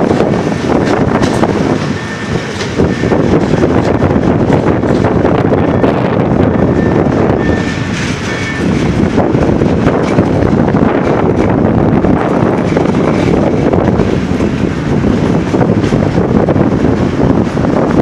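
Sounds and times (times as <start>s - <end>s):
train wheels rumbling on track: 0.0s - 18.0s
wind buffeting microphone: 0.0s - 18.0s.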